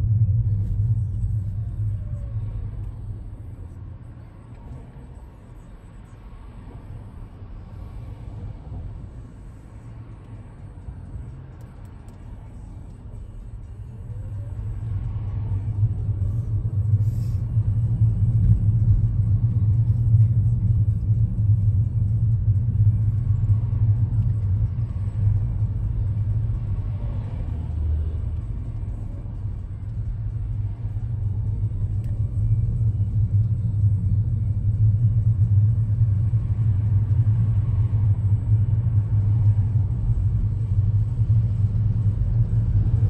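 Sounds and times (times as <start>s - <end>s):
car engine and tyres rumbling: 0.0s - 43.0s.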